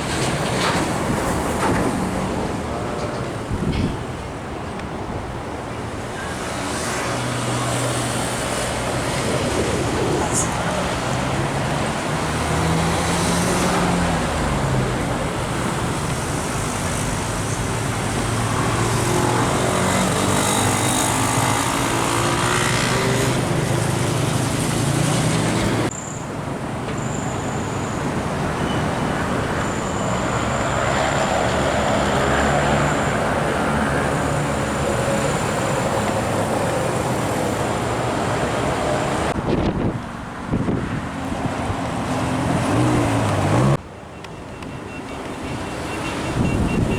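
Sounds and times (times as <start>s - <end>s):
road traffic passing: 0.0s - 46.9s.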